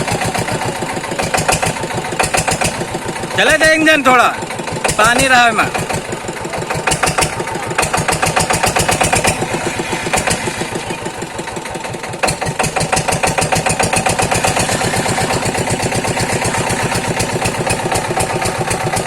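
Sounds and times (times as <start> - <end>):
diesel pump engine running: 0.0 - 19.0.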